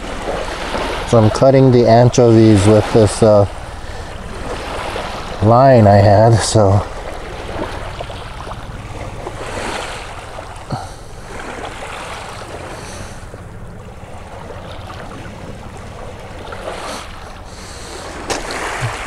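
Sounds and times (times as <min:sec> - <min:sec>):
small lake waves: 0:00.0 - 0:19.0
wind: 0:00.0 - 0:19.0.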